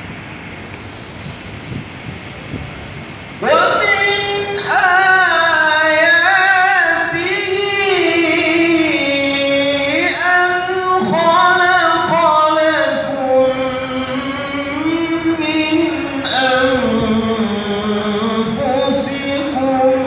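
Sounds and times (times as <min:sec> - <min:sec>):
man reciting melodically: 0:03.4 - 0:20.0.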